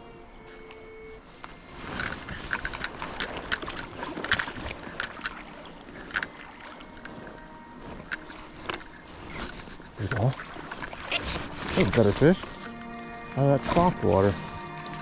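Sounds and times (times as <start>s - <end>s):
creek water splashing: 0.0s - 15.0s
sharp water splashes: 2.8s - 14.8s.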